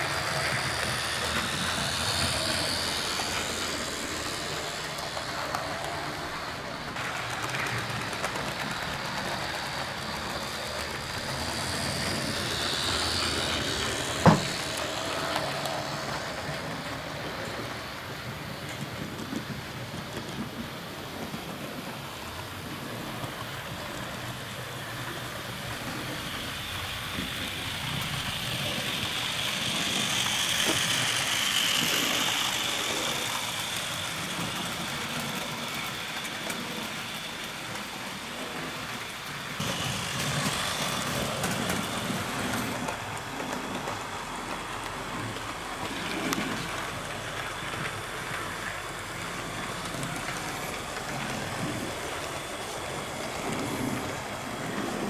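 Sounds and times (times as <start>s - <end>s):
model train rolling rumble: 0.0s - 55.0s.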